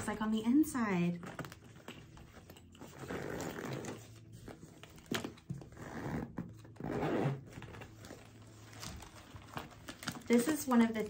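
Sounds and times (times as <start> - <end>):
bag rustling: 1.1 - 10.5.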